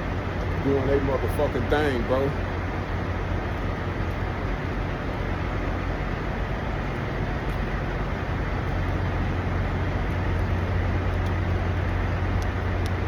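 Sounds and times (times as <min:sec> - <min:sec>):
constant rushing noise: 0:00.0 - 0:13.0
diesel truck engines idling: 0:00.0 - 0:13.0.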